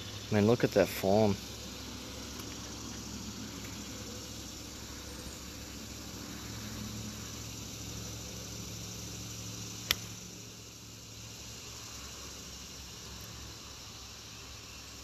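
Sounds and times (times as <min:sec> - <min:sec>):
faint steady hum and hiss: 0:00.0 - 0:15.0.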